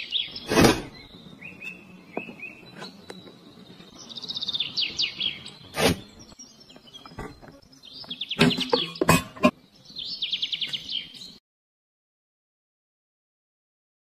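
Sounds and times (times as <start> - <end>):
soft bird chirps: 0.0 - 11.4
songbird singing: 0.0 - 11.4.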